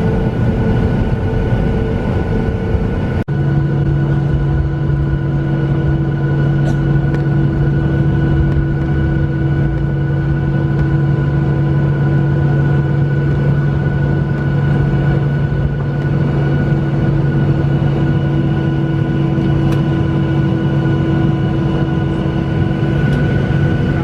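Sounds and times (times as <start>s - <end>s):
airliner cabin engine drone: 0.0s - 24.0s.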